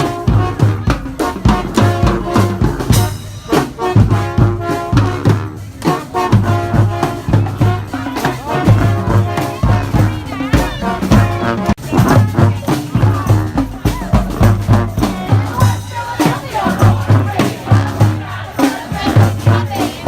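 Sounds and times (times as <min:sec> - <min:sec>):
brass horns melody: 0:00.0 - 0:20.0
driving drum beat: 0:00.0 - 0:20.0.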